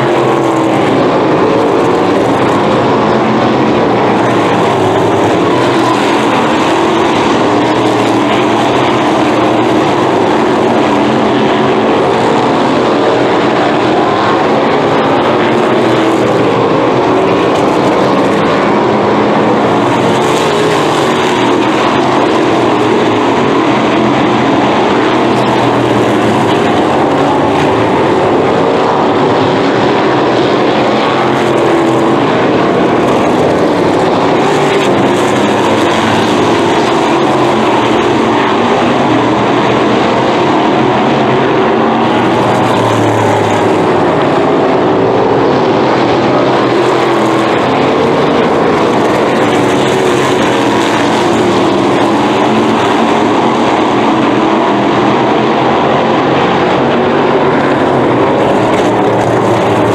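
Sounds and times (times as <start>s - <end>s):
race car engines droning: 0.0s - 59.9s.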